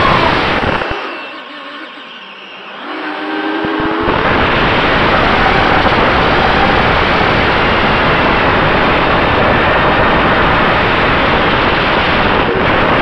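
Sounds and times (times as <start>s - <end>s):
wind and propeller noise: 0.0s - 1.1s, 3.6s - 13.0s.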